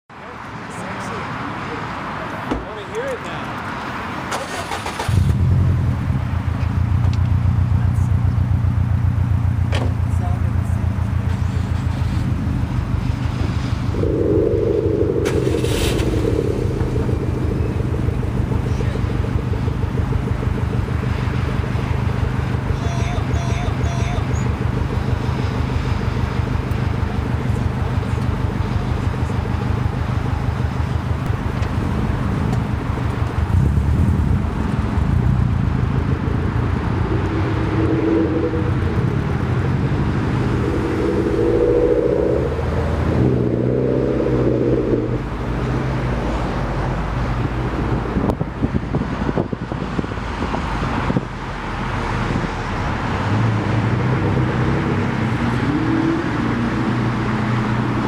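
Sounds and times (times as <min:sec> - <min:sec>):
car engine revving: 0:04.0 - 0:58.0.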